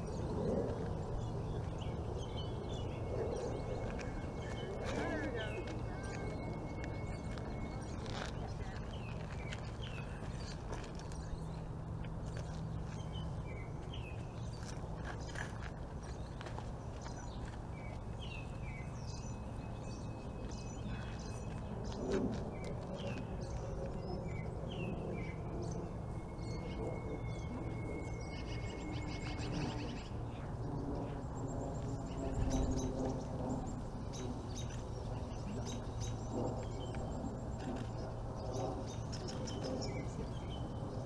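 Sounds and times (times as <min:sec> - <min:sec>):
low background rumble: 0:00.0 - 0:41.0
small birds chirping: 0:00.0 - 0:41.0.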